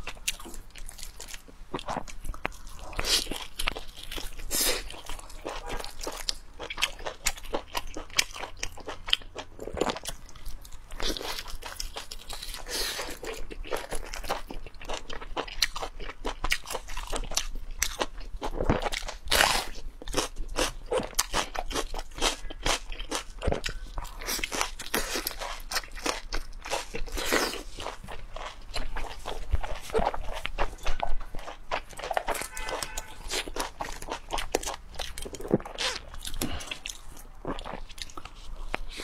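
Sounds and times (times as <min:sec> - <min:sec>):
person chewing meat: 0:00.0 - 0:39.0.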